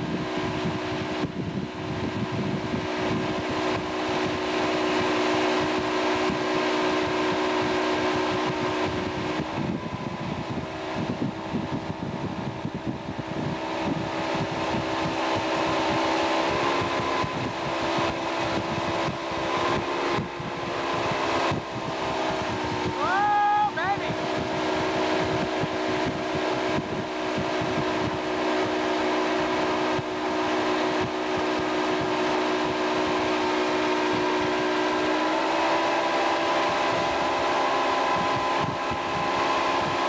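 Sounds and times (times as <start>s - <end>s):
wake water rushing: 0.0s - 12.2s, 13.2s - 40.0s
wind rushing: 0.0s - 37.4s
boat engine running: 0.0s - 40.0s.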